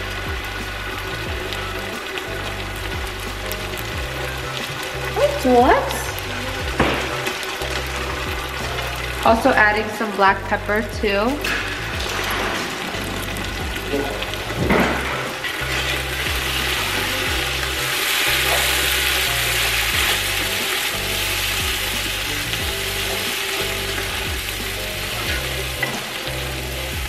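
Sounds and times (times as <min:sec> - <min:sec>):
background music with bass: 0:00.0 - 0:27.0
vegetables sizzling in oil: 0:00.0 - 0:27.0.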